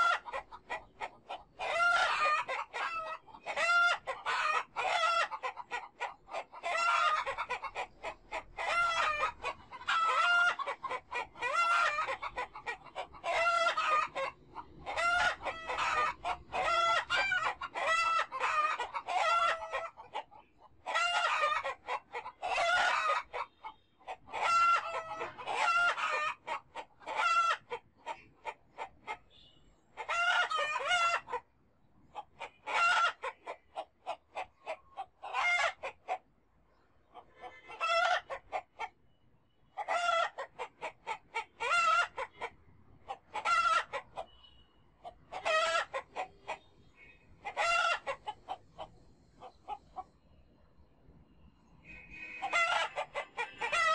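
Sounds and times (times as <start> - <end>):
chickens clucking and cackling: 0.0 - 53.9.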